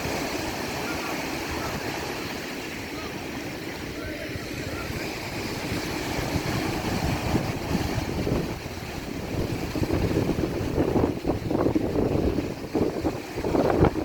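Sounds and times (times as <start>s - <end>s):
sea waves washing on beach: 0.0s - 14.0s
wind buffeting microphone: 0.0s - 14.0s.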